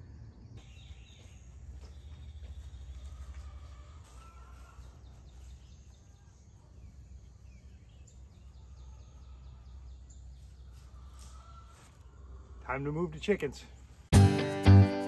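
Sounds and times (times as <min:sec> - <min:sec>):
bird calls: 0:00.0 - 0:12.6.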